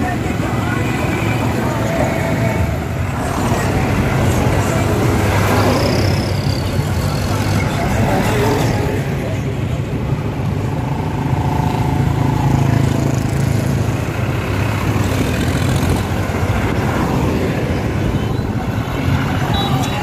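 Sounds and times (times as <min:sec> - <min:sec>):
tractor engines driving past: 0:00.0 - 0:20.0.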